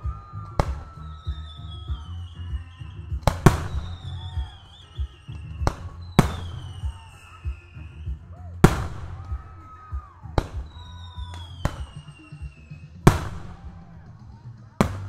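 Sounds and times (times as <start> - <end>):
firework shells bursting: 0.0 - 15.0
music with steady bass beat: 0.0 - 15.0.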